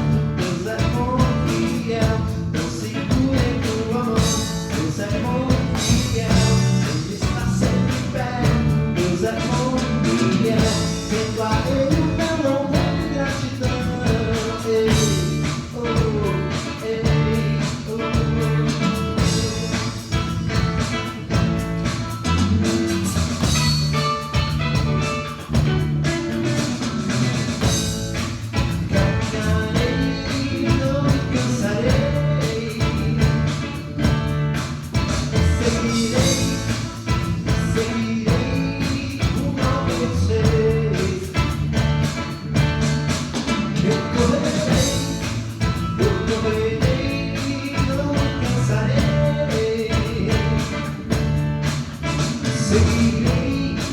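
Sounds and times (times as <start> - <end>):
gospel band playing: 0.0 - 53.9.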